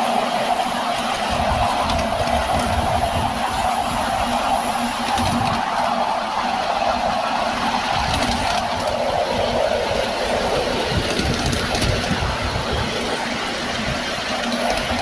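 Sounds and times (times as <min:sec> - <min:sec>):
wheels rumbling and rattling on rails: 0:00.0 - 0:15.0.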